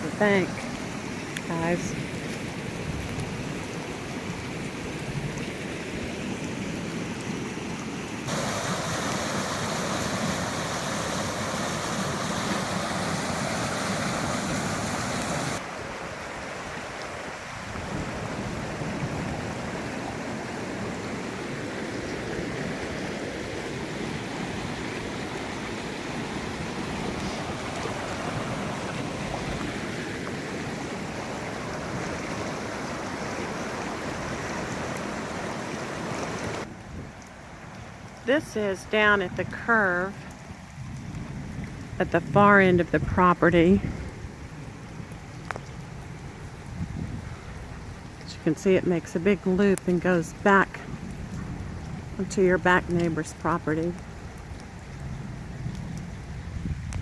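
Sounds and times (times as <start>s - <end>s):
floodwater roaring in creek: 0.0s - 57.0s.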